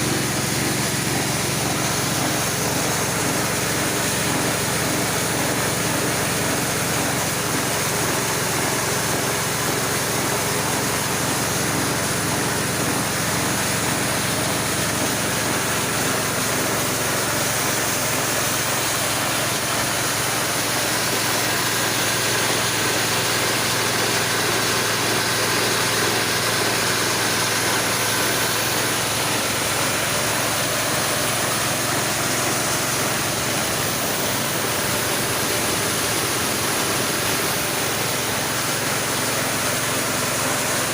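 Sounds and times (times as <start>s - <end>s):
grinding machine engine hum: 0.0s - 40.9s.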